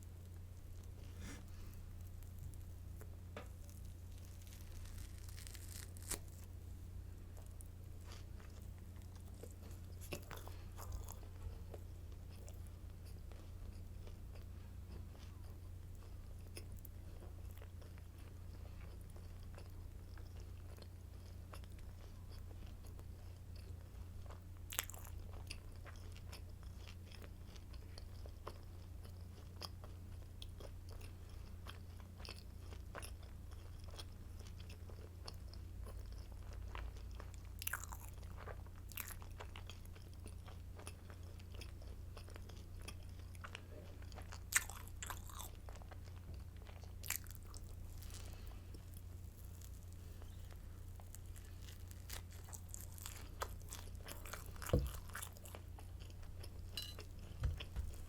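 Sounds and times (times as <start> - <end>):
crunchy bread chewing: 0.0 - 58.0
low steady hum: 0.0 - 58.0.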